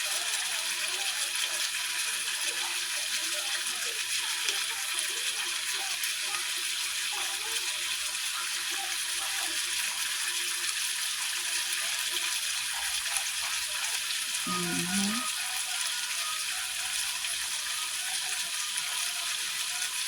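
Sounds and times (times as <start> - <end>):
steak sizzling in a hot pan: 0.0 - 20.0.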